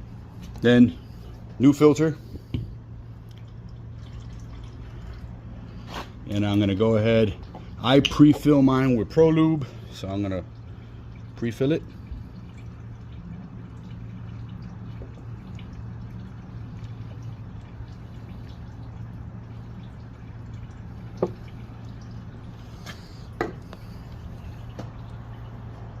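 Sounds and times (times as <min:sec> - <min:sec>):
oil trickling: 0:00.0 - 0:26.0.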